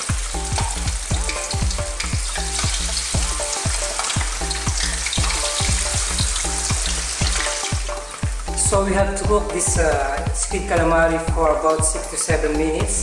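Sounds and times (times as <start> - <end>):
squid deep-frying in hot oil: 0.0 - 13.0.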